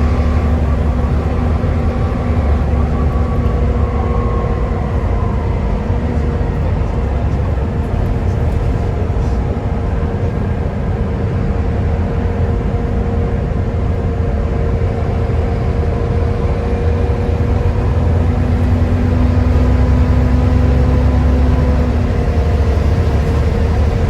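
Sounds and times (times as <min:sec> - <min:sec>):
bus diesel engine droning: 0:00.0 - 0:24.0
engine whine: 0:00.0 - 0:24.0.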